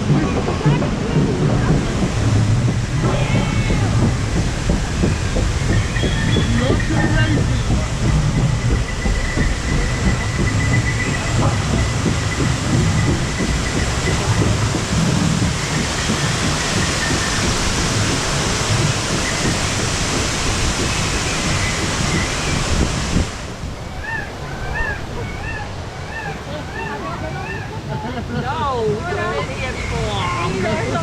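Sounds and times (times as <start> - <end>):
raft conveyor rumble and clatter: 0.0 - 31.0.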